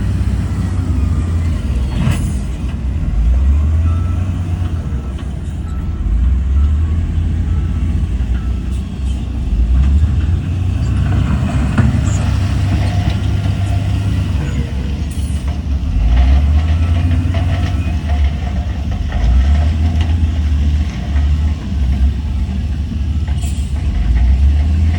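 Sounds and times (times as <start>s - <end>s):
diesel engine rumbling: 0.0s - 24.9s.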